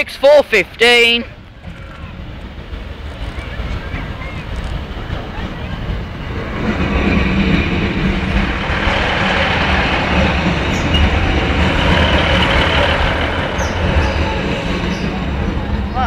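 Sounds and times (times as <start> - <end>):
diesel train engines running: 0.0 - 16.0
wheels rumbling on rails: 1.1 - 16.0.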